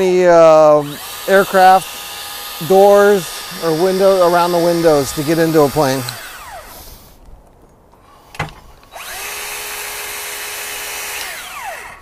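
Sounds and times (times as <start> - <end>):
hydraulic cutter motor whine: 0.8 - 7.1, 8.0 - 12.0.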